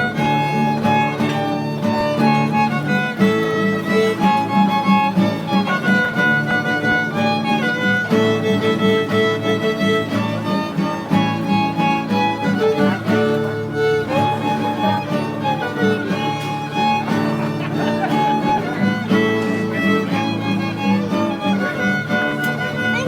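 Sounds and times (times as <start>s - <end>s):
strummed guitar: 0.0s - 23.0s
violin melody: 0.0s - 23.0s.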